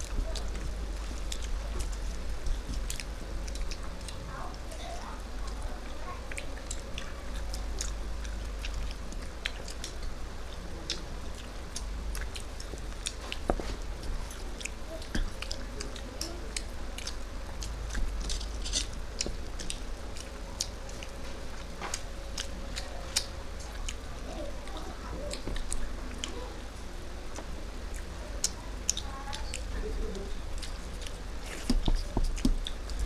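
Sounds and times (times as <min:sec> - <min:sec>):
chewing with wet mouth clicks: 0:00.0 - 0:33.0
low steady hum: 0:00.0 - 0:33.0.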